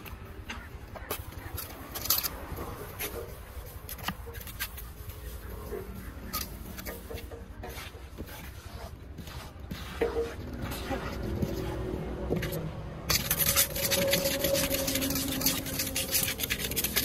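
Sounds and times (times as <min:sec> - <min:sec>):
trowel scraping cement mix: 0:00.0 - 0:17.0.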